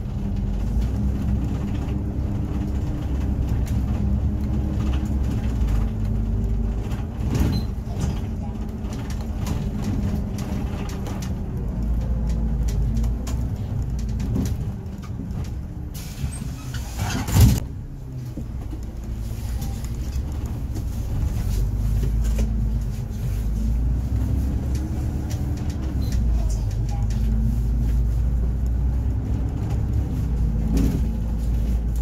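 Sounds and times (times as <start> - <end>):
bus engine drone: 0.0 - 32.0.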